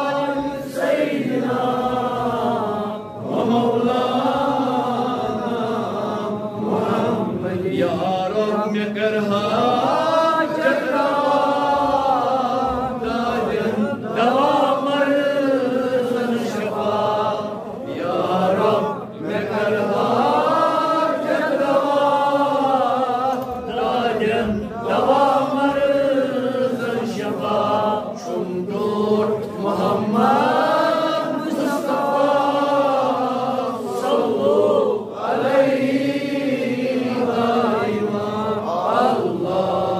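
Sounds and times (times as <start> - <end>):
man chanting melodically: 0.0 - 39.9.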